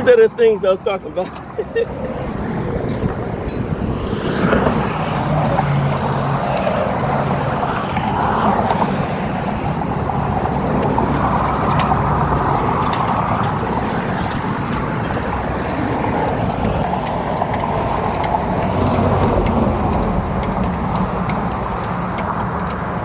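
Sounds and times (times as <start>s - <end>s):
highway traffic rushing by: 0.0s - 23.0s.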